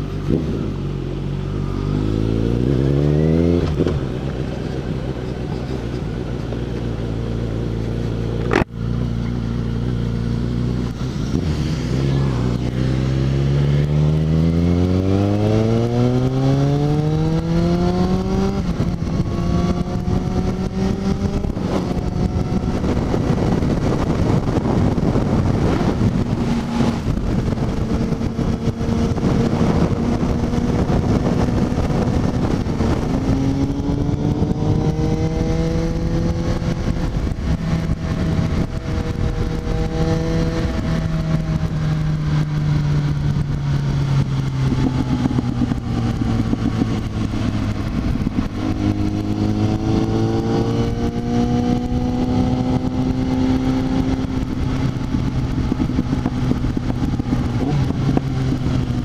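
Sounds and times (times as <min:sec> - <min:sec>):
motorcycle engine accelerating: 0:00.0 - 0:59.0
wind and tyre noise on wet road: 0:00.0 - 0:59.0.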